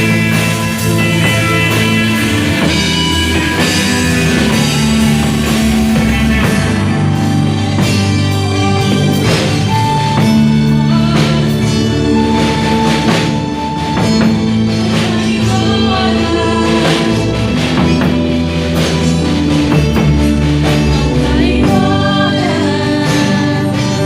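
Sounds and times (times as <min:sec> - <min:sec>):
bass guitar: 0:00.0 - 0:24.0
drum kit: 0:00.0 - 0:24.0
guitar: 0:00.0 - 0:24.0
person singing: 0:00.0 - 0:24.0.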